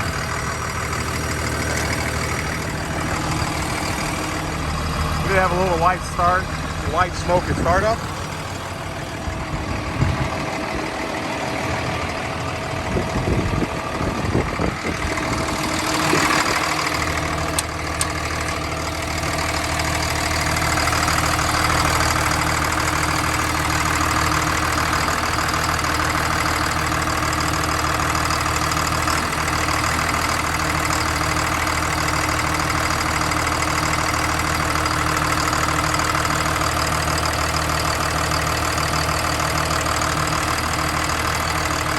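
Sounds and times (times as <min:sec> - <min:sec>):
diesel engine starting and idling: 0:00.0 - 0:41.9.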